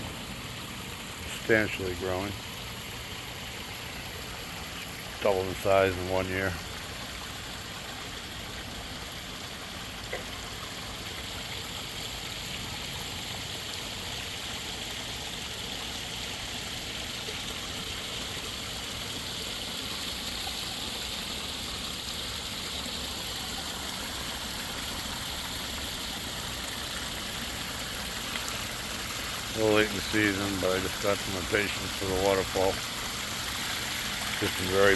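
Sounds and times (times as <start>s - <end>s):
water splashing over pond waterfall: 0.0s - 34.9s.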